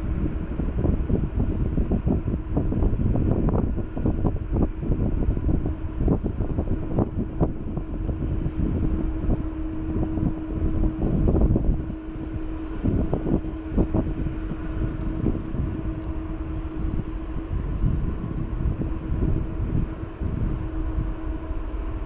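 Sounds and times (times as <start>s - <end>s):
jet engines idling: 0.0s - 22.0s
wind buffeting microphone: 0.0s - 22.0s.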